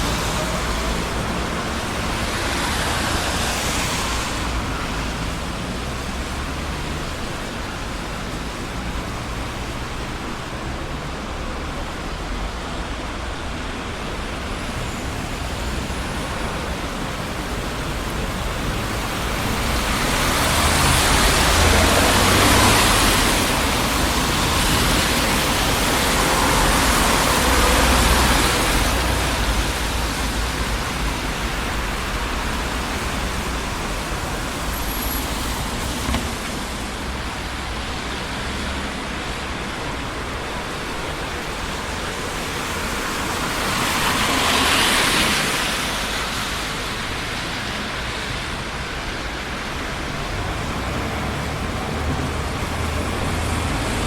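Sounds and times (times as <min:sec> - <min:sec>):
city street traffic: 0:00.0 - 0:54.0
vehicles passing: 0:00.0 - 0:54.0.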